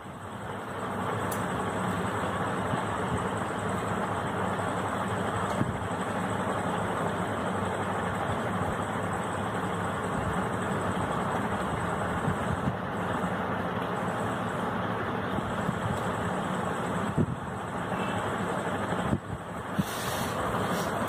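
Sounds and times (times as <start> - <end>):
machine background hum: 0.0 - 21.0.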